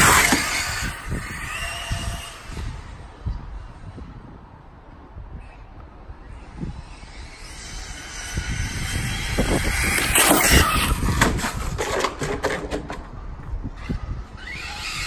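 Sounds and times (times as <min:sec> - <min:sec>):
radio-controlled car rushing: 0:00.0 - 0:03.9, 0:06.3 - 0:15.0.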